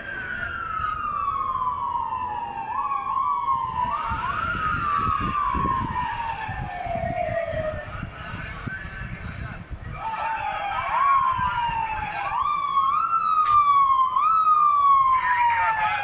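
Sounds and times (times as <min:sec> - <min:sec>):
siren winding down: 0:00.0 - 0:08.1, 0:10.2 - 0:16.0.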